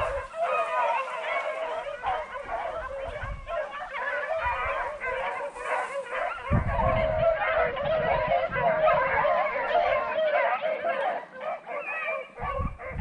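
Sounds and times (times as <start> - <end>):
wind gusts on microphone: 0.0 - 10.2, 12.4 - 13.0
dogs baying: 0.0 - 13.0.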